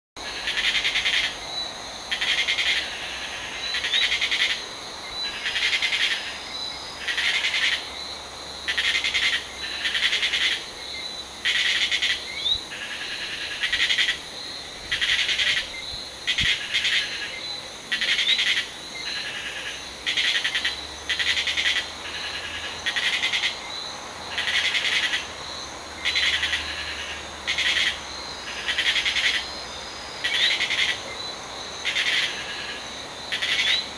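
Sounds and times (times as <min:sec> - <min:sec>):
pulsing insect call: 0:00.2 - 0:33.9.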